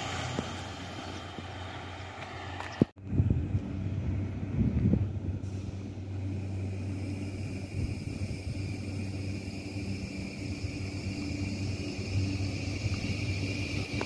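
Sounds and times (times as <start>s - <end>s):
electric train hum and whine: 0.0s - 14.0s.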